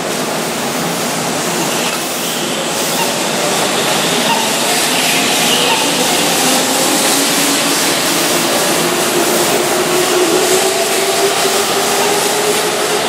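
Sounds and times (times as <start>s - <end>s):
train wheels on rails: 0.0s - 13.0s
train motor whine: 0.3s - 13.0s.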